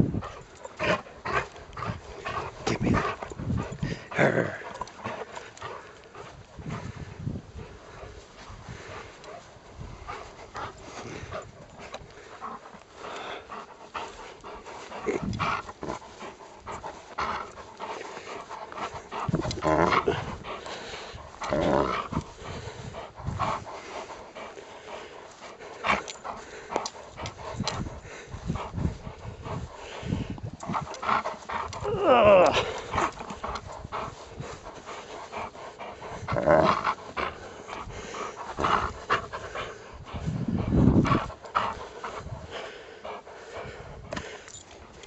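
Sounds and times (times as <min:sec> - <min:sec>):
dog growling in play: 0:00.0 - 0:45.0
dog panting: 0:00.0 - 0:45.0.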